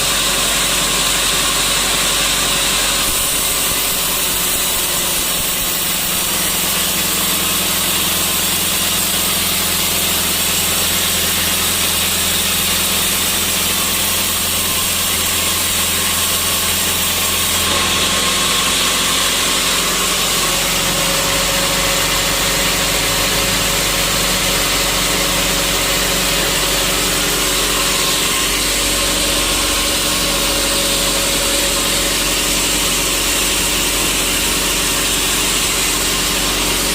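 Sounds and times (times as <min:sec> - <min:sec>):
sawmill machinery running: 0:00.0 - 0:36.9.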